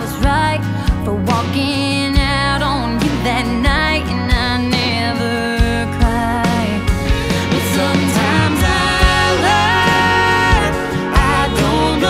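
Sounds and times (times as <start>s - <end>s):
country instrumental music: 0.0s - 12.0s.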